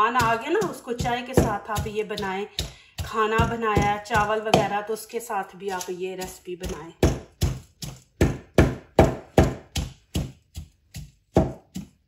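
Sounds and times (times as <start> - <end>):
pestle pounding in mortar: 0.0 - 4.8, 5.7 - 12.0.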